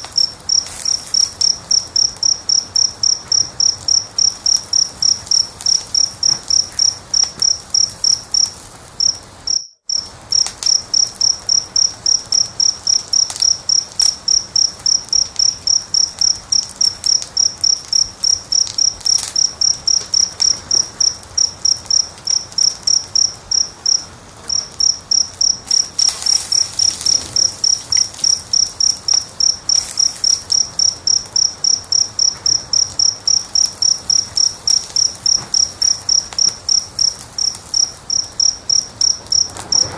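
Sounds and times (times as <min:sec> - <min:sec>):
cricket chirping: 0:00.0 - 0:39.9
faint wood fire crackles: 0:00.0 - 0:39.9.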